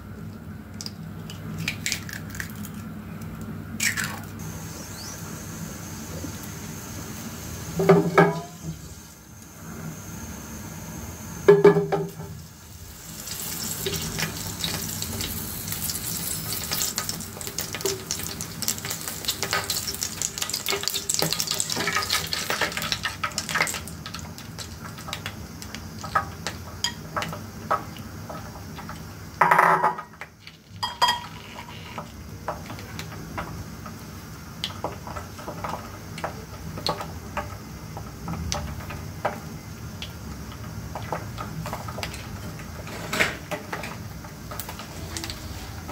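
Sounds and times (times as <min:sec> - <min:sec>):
eggs frying with pops: 0:00.3 - 0:08.9, 0:11.4 - 0:45.4
oil sizzling in frying pan: 0:03.9 - 0:45.9.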